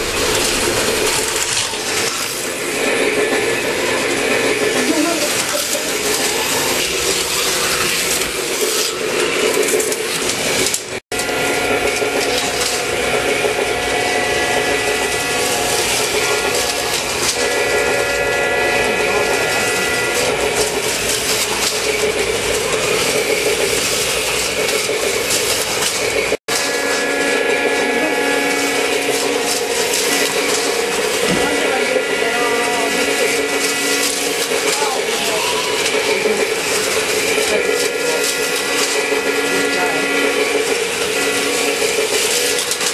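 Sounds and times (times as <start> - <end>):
whining tones: 0.0 - 42.9
whir of small electric motors: 0.0 - 42.9.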